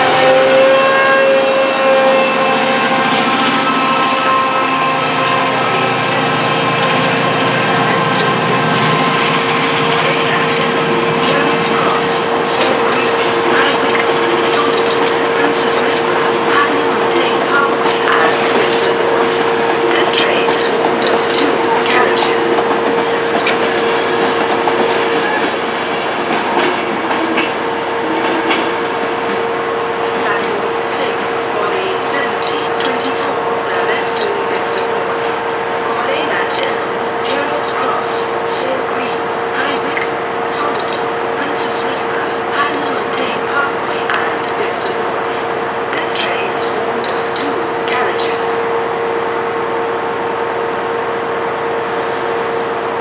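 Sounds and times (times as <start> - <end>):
coaches rumbling on track: 0.0 - 51.9
diesel locomotive under power: 0.0 - 53.0
train running past: 0.0 - 53.0.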